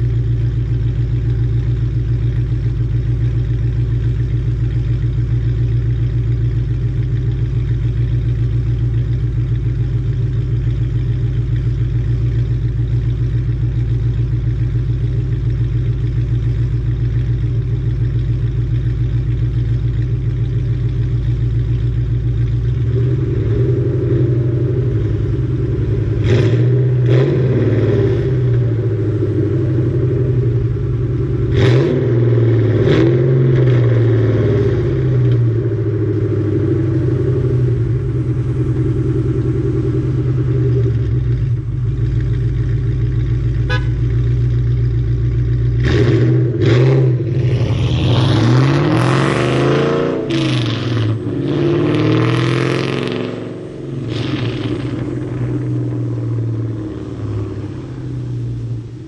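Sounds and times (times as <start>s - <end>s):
car engine idling: 0.0s - 59.0s
car engine revving: 0.0s - 59.0s.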